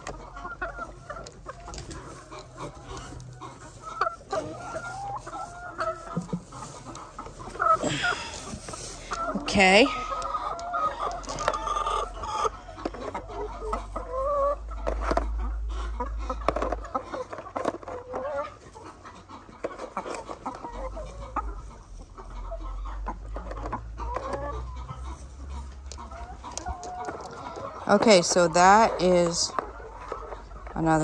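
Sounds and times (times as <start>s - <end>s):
hens clucking: 0.0s - 31.0s.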